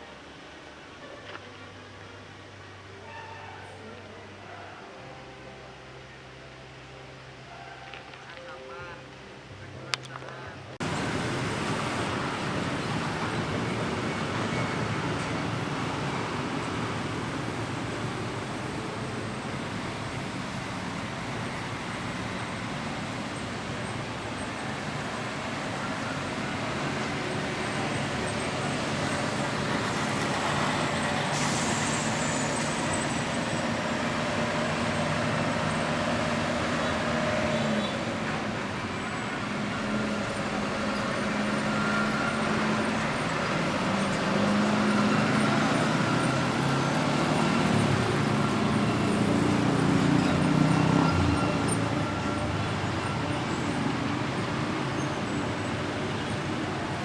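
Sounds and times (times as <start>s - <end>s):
road traffic with heavy vehicles: 0.0s - 57.0s.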